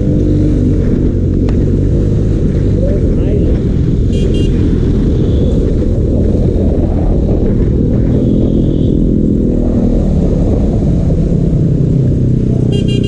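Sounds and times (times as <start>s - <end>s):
low rumble: 0.0s - 12.8s
motorcycle engine running: 0.0s - 13.0s.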